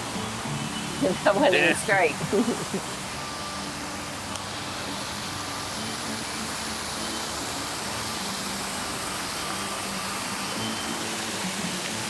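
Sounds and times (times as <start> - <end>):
faint music: 0.0 - 12.0
running water rushing: 0.0 - 12.0.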